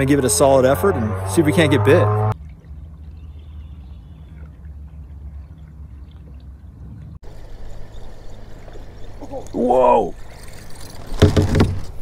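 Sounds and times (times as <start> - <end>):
water lapping and trickling: 2.3 - 12.0.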